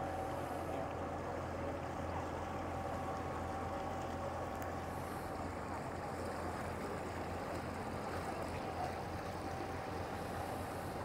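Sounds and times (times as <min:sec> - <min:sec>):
motor boat engine droning: 0:00.0 - 0:11.0.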